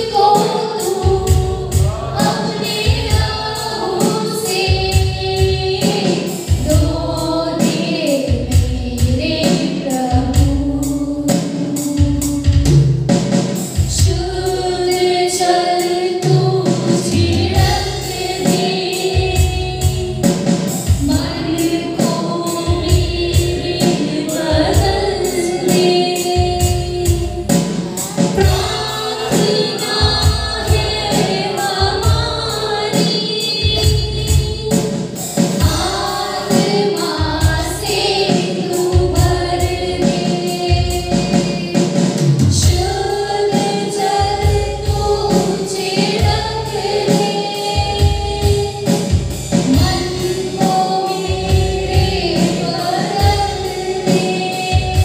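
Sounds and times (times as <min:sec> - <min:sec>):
women singing into microphones: 0:00.0 - 0:12.9, 0:13.7 - 0:55.0
backing music with steady beat: 0:00.0 - 0:55.0.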